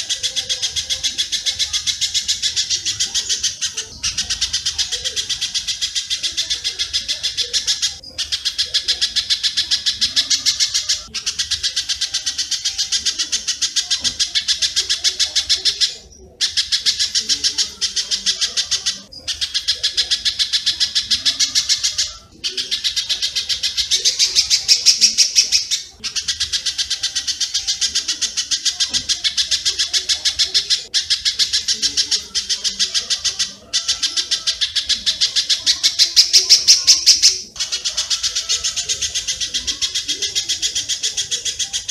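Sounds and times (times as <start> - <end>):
rapid bird chips: 0.0 - 41.9.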